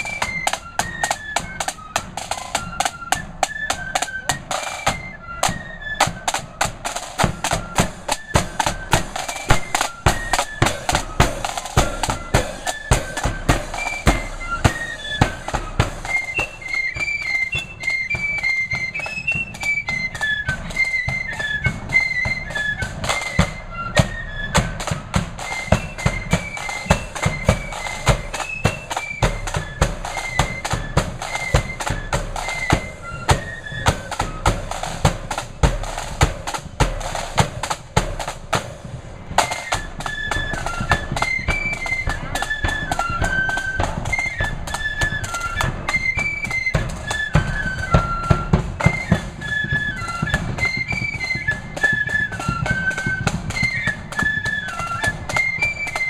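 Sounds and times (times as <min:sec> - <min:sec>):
driving drum beat: 0:00.0 - 0:56.0
high flute melody: 0:00.0 - 0:56.0.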